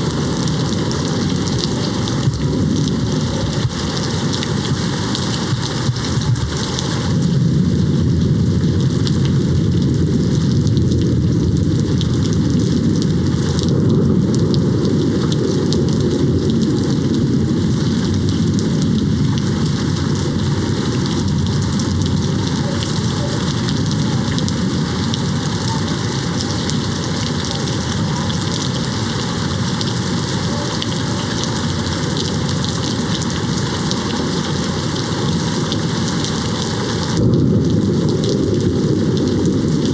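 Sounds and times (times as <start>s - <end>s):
distant thunder rumbling: 0.0s - 39.9s
heavy rain on a window: 0.0s - 39.9s.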